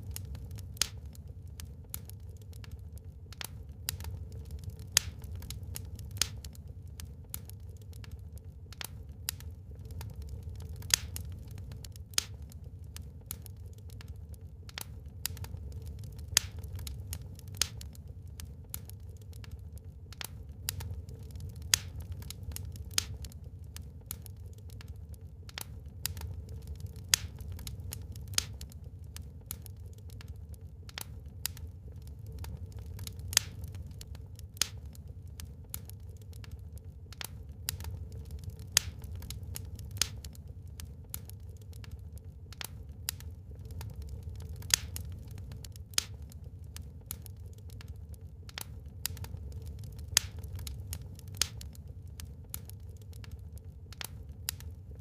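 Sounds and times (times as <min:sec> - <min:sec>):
fire flames rumbling: 0:00.0 - 0:55.0
logs crackling and popping: 0:00.0 - 0:55.0.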